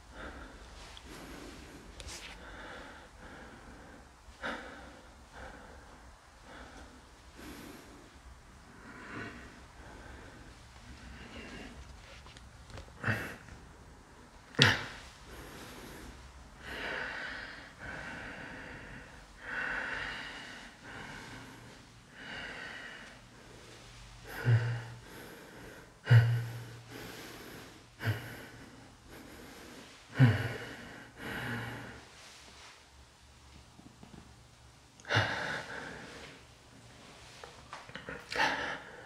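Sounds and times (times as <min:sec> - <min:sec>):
person breathing heavily: 0:00.0 - 0:32.8, 0:35.0 - 0:39.0.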